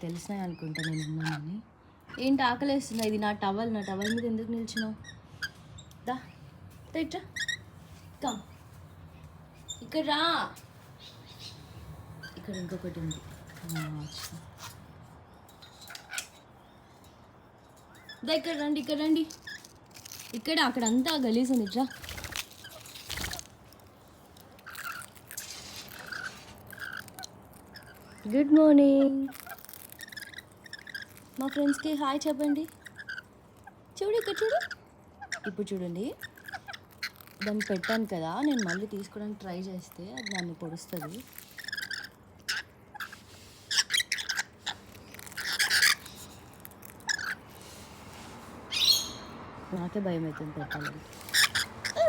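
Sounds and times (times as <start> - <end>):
parrots crunching food: 2.6 - 6.1, 10.6 - 49.7, 50.3 - 52.0.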